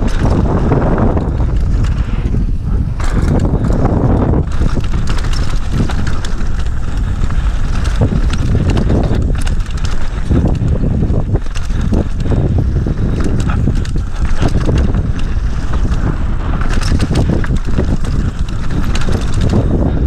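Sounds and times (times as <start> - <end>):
bike rattling over bumps: 0.0 - 20.0
tyres on dirt: 0.0 - 20.0
wind on microphone: 0.0 - 20.0.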